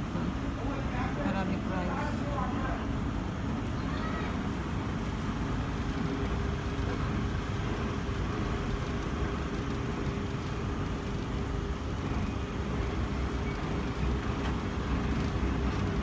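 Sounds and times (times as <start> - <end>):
faint constant hum: 0.0 - 16.0
low rumble of street traffic: 0.0 - 16.0.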